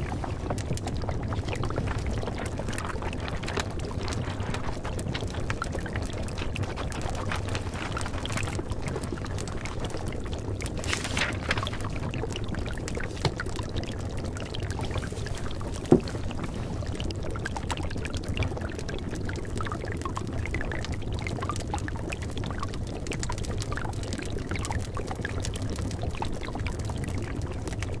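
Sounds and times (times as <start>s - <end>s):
pouring water: 0.0s - 28.0s.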